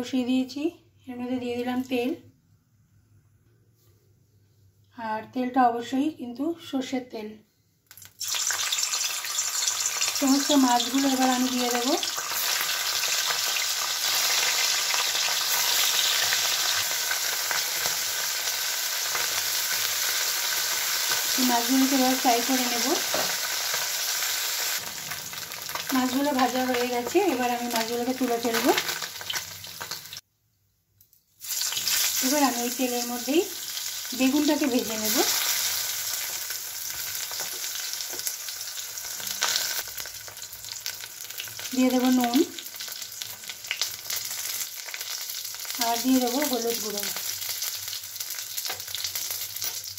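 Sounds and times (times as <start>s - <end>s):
oil sizzling with pops: 7.8s - 30.2s, 31.4s - 49.9s.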